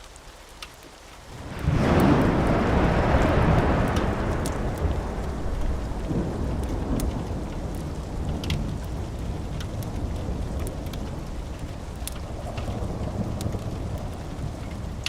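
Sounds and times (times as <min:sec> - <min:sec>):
steady rain: 0:00.0 - 0:15.0
rolling thunder: 0:01.3 - 0:15.0.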